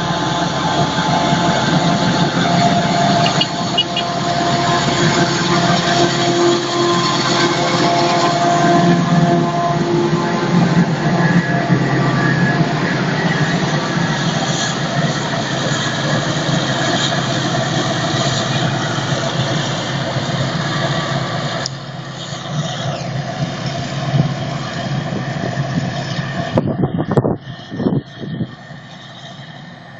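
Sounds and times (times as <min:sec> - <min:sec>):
forage harvester machine drone: 0:00.0 - 0:29.9.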